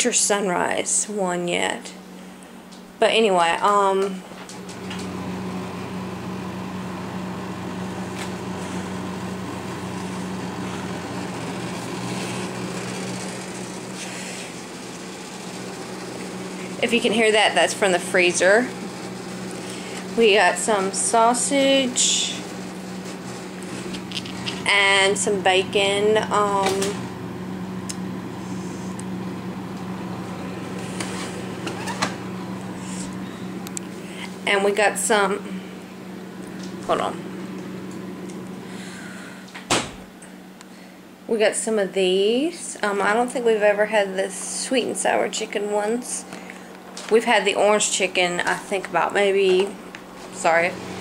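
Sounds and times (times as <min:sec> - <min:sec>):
freezer humming: 0:00.0 - 0:51.0.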